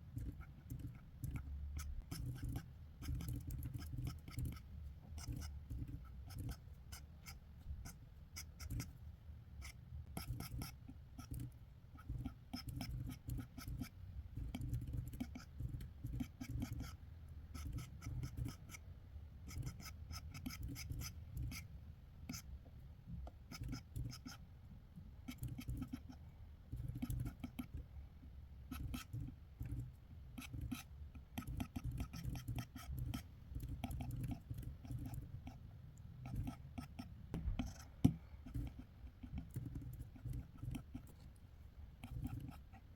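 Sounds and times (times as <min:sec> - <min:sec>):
drawing tool scratching on paper: 0:00.1 - 0:08.9, 0:09.6 - 0:18.8, 0:19.4 - 0:21.7, 0:22.3 - 0:22.5, 0:23.3 - 0:24.4, 0:25.3 - 0:27.9, 0:28.7 - 0:35.6, 0:36.2 - 0:41.3, 0:42.0 - 0:42.9.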